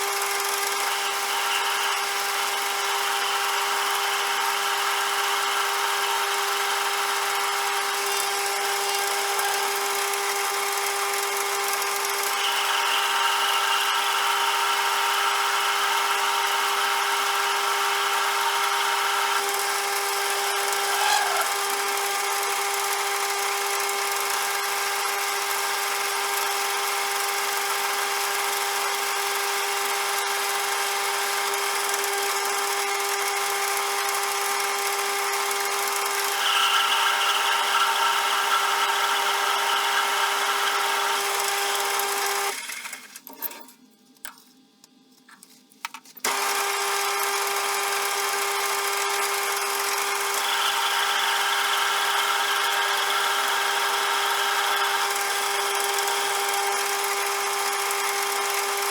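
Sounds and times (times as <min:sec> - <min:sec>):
metal lathe whining: 0:00.0 - 0:43.2, 0:46.3 - 0:58.9.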